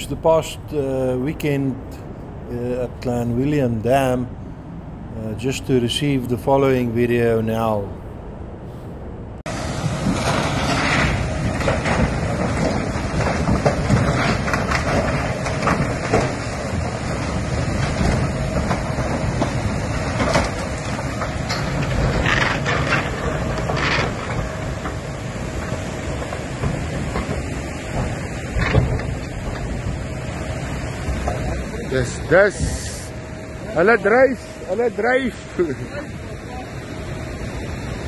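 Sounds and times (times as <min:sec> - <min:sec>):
storm wind rushing: 0:00.0 - 0:38.0.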